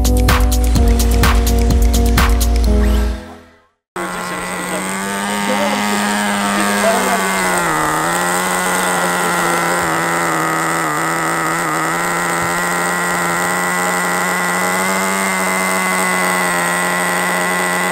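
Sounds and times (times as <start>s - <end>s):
small engine idling: 0.0s - 17.9s.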